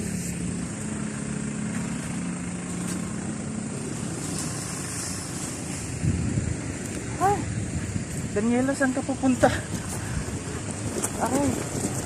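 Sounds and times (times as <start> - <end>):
outdoor traffic noise: 0.0 - 12.0
vehicle engine humming: 0.0 - 12.0.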